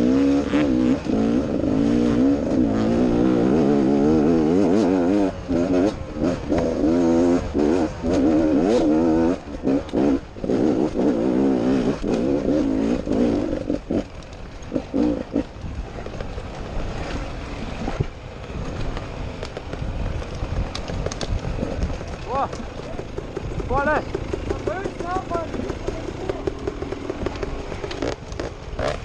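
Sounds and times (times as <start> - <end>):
dirt bike engine revving: 0.0 - 20.6, 21.3 - 29.0.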